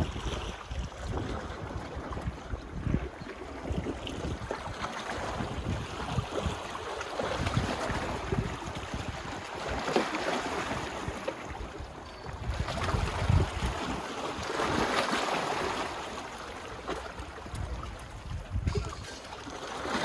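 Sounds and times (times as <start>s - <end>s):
wind buffeting microphone: 0.0s - 16.1s, 16.9s - 19.6s
small waves lapping at shore: 0.0s - 20.0s.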